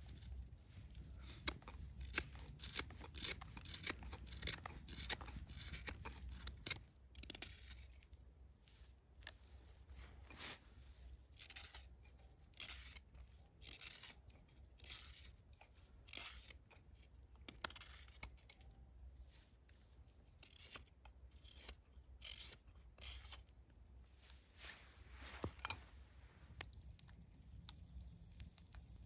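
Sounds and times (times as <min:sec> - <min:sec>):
knife shaving wood: 0:00.0 - 0:29.0.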